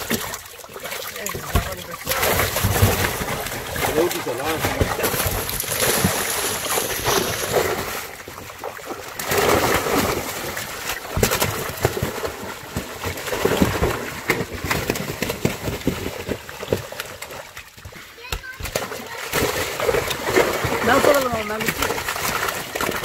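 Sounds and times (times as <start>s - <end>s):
fish splashing in water: 0.0s - 23.0s.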